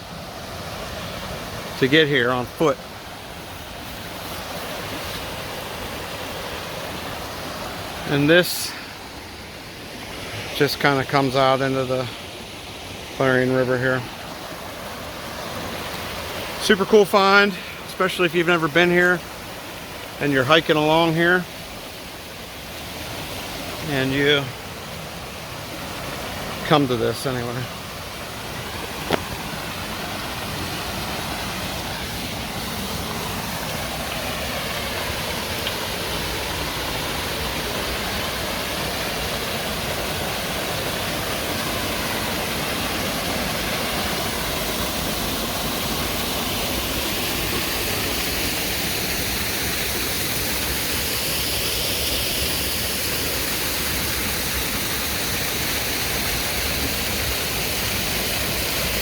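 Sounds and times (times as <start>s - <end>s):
water rushing over dam: 0.0s - 59.0s.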